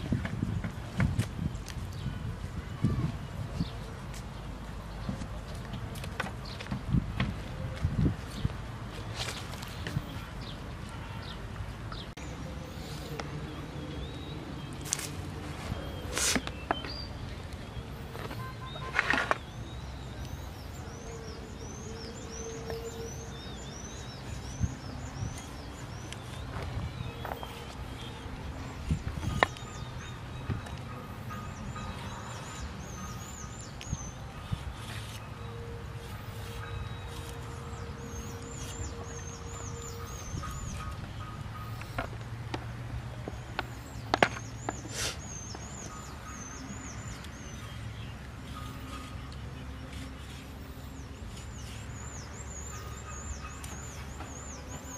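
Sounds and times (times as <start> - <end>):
bird chirping: 9.2 - 42.3, 43.1 - 54.9.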